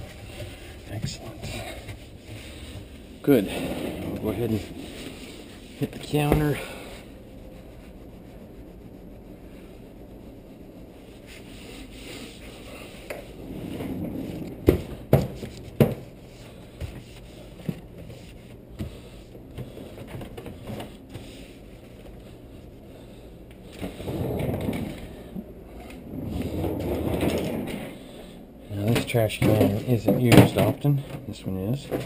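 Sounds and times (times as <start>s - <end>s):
rubbing and rustling: 0.0s - 30.8s.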